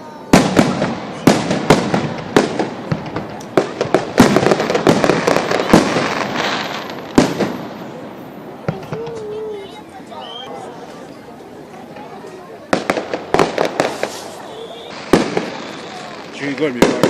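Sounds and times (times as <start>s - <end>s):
fireworks crackle: 0.0s - 17.0s
firework bangs: 0.3s - 9.8s, 11.8s - 17.0s.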